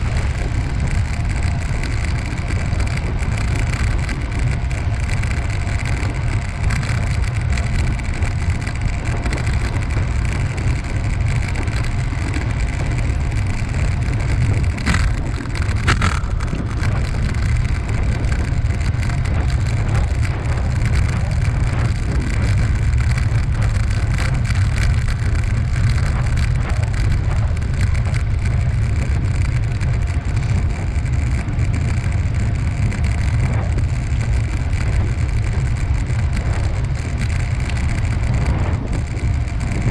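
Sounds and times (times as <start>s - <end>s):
road noise: 0.0s - 39.9s
wind buffeting microphone: 0.0s - 39.9s.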